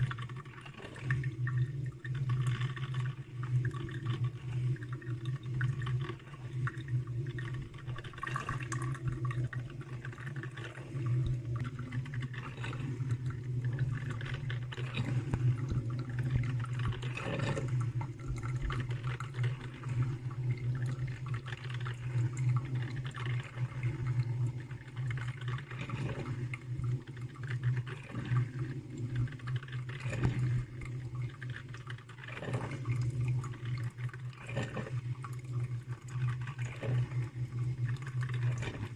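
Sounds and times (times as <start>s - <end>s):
coffee maker water gurgling: 0.0s - 38.9s.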